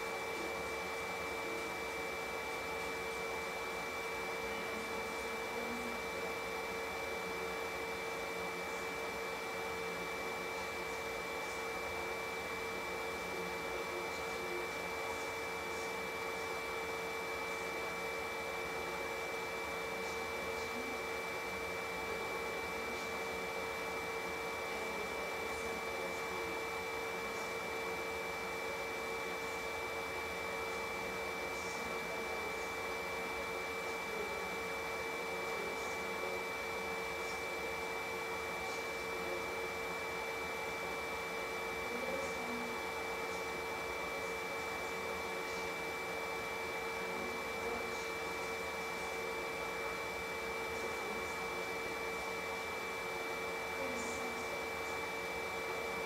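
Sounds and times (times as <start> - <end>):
stove blower whirring: 0.0 - 56.0.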